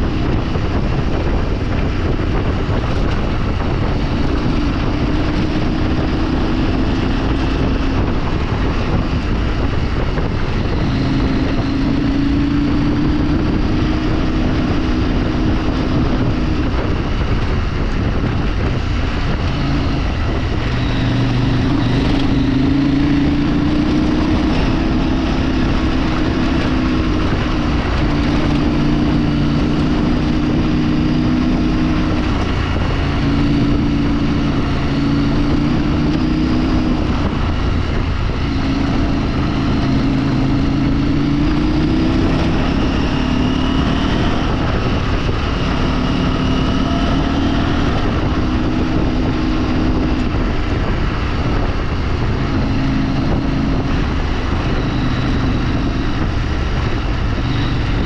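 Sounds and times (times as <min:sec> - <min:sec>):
vehicle engine running: 0:00.0 - 0:58.0
wind and road noise: 0:00.0 - 0:58.0.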